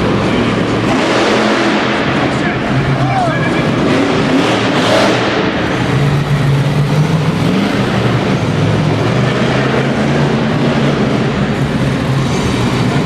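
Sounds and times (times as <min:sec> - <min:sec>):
monster truck engine running loudly: 0:00.0 - 0:13.0.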